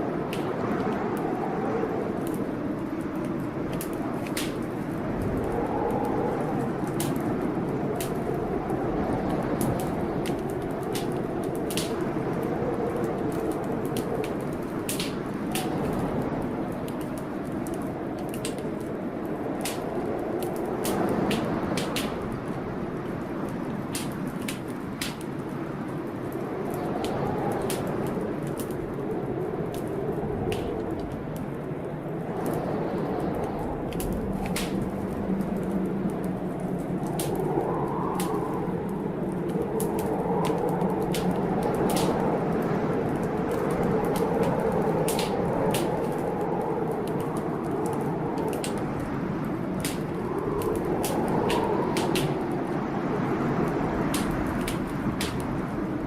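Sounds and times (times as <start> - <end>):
storm rain: 0.0 - 56.0
wood fire crackling: 0.0 - 56.0
sharp pops from fire: 2.2 - 22.6, 23.4 - 28.9, 29.6 - 31.2, 33.4 - 52.8, 53.6 - 56.0.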